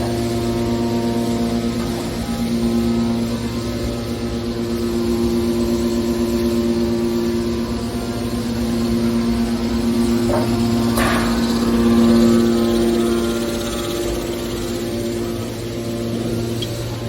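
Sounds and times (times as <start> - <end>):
hydraulic pump motor humming: 0.0 - 17.0.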